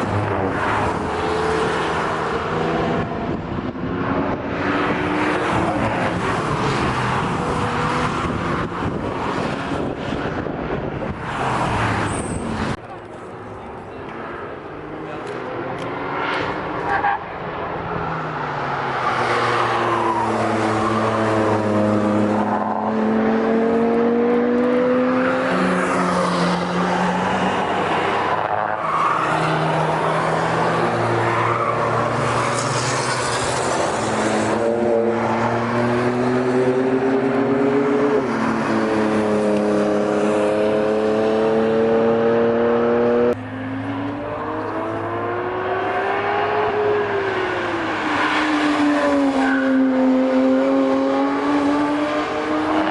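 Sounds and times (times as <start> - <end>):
cars accelerating hard: 0.0 - 12.8, 13.9 - 52.9.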